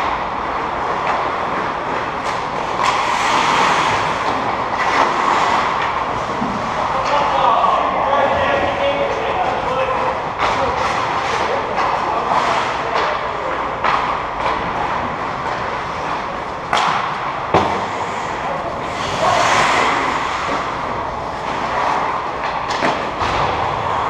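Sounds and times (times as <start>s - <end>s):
stick and puck clacks: 0.0s - 7.4s, 8.9s - 24.0s
skates scraping ice: 0.0s - 24.0s.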